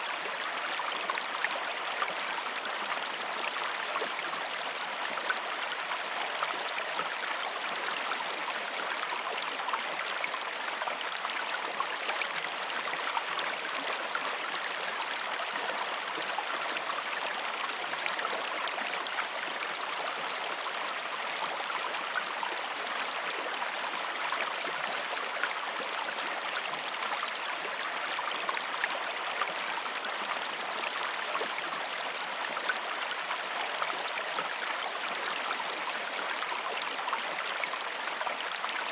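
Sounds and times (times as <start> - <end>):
stream water running over stones: 0.0 - 38.9.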